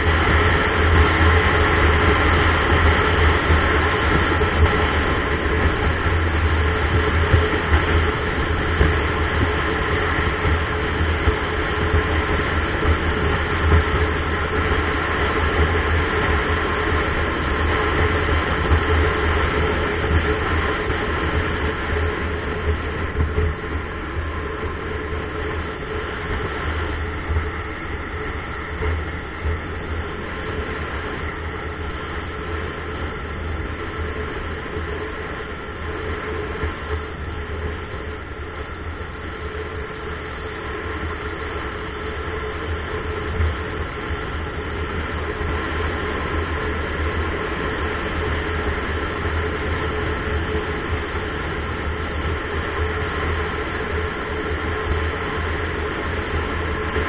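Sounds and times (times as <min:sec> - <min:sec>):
vehicle engine hum: 0:00.0 - 0:57.0
wind and tyre noise: 0:00.0 - 0:57.0.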